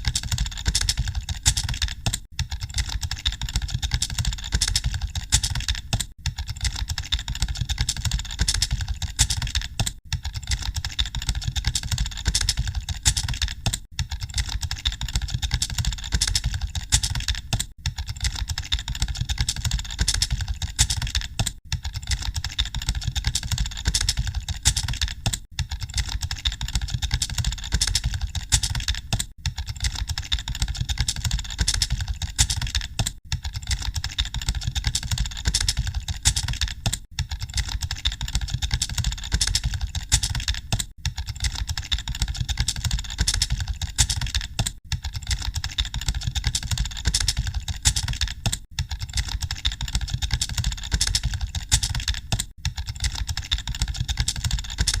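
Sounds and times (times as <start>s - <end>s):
rapid typing on keyboards: 0.0s - 55.0s.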